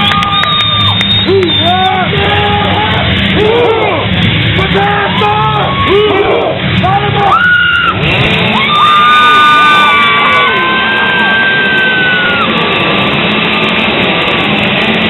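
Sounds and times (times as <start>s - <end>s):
crowd yelling and screaming: 0.0s - 15.0s.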